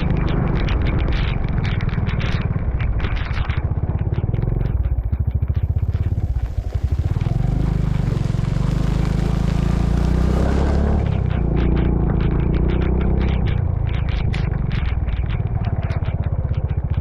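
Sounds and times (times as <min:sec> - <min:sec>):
small motorcycle engine running: 0:00.0 - 0:17.0.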